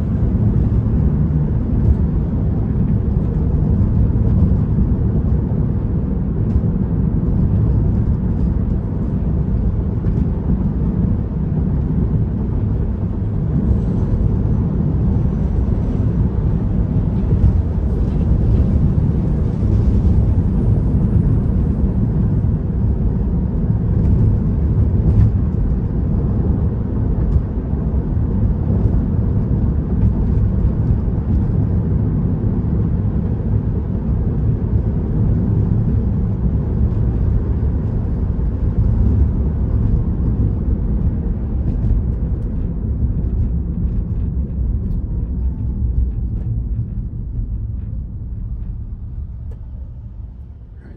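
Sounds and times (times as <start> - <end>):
road and tyre rumble: 0.0 - 50.9.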